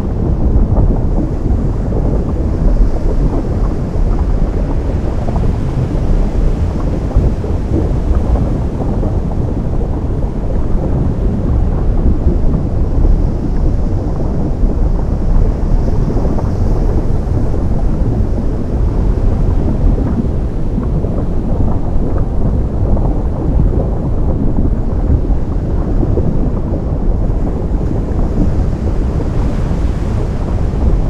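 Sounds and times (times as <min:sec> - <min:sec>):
deep rumble with dense crackle: 0:00.0 - 0:31.0.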